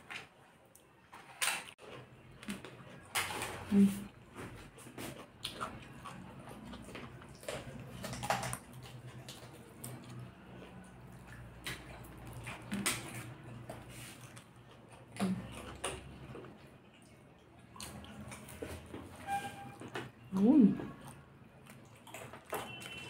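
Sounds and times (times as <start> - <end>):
wet chewing and slurping: 0.0 - 23.0.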